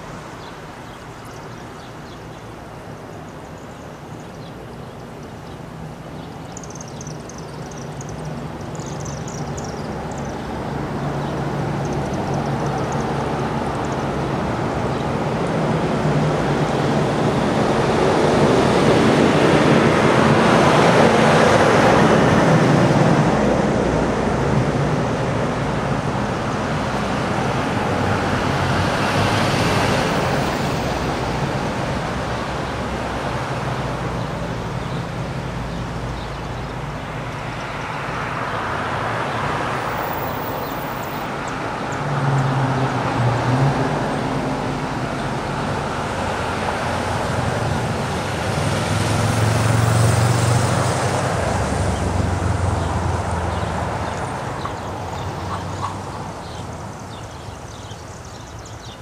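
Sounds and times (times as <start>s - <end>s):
cars passing on street: 0.0s - 59.0s.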